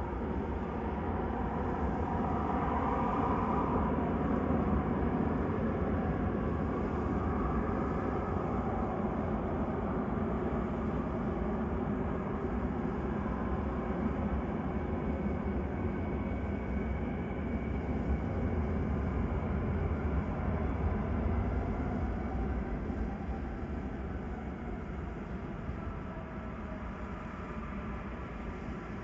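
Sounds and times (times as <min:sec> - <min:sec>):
jet engines running at low power: 0:00.0 - 0:29.0.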